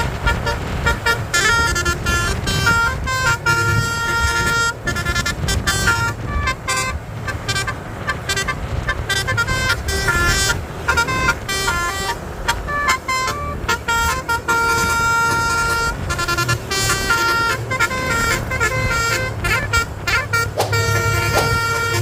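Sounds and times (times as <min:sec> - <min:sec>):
musical air horn melody: 0:00.0 - 0:22.0.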